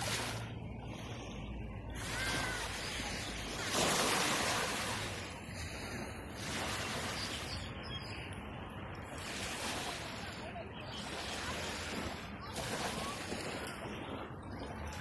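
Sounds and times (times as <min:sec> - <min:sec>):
small waves breaking on shore: 0:00.0 - 0:15.0.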